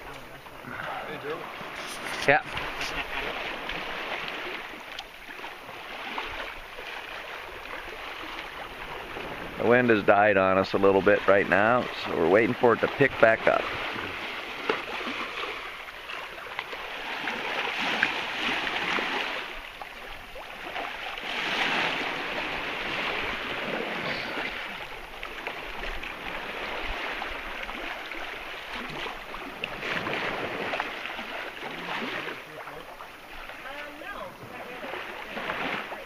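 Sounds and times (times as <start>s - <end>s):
water rushing along a hull: 0.0s - 36.0s.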